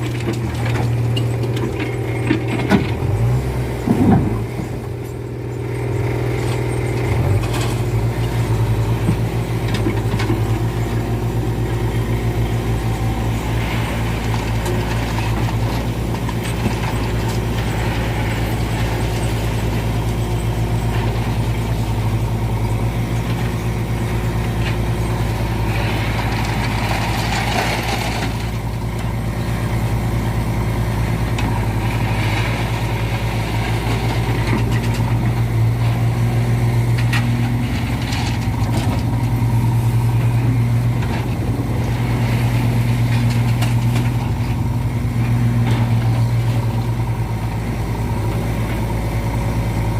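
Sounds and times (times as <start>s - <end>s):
diesel engine humming: 0.0s - 49.9s.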